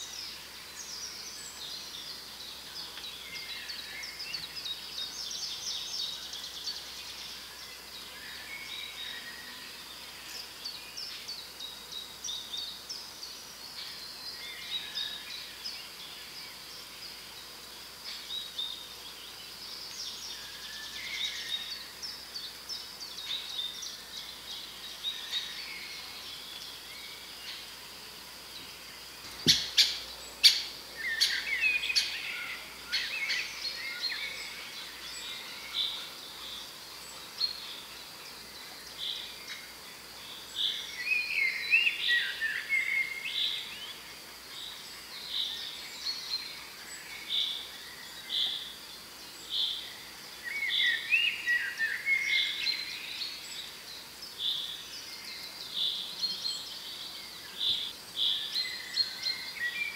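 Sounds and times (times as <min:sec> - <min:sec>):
faint background hiss: 0:00.0 - 0:59.9
songbirds singing: 0:00.0 - 0:59.9.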